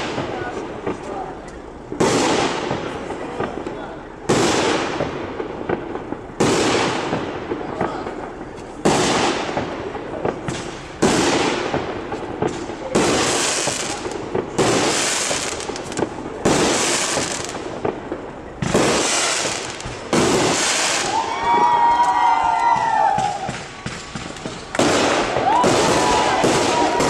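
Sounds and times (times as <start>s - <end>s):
firework shells bursting with hiss: 0.0s - 27.0s.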